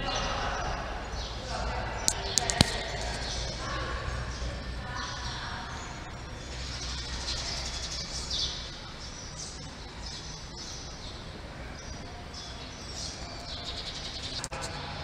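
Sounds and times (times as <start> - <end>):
small birds chirping: 0.0 - 14.8
steady low hum: 0.0 - 15.0.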